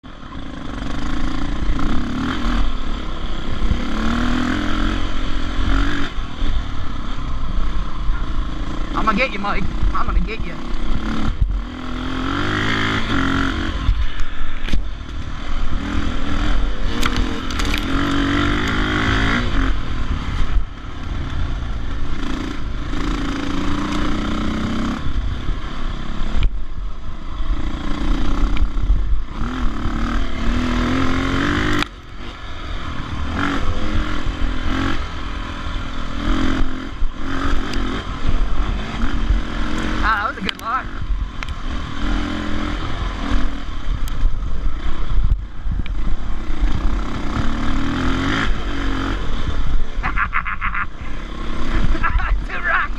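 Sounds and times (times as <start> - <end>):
dirt bike engine revving: 0.1 - 26.4, 27.0 - 52.9.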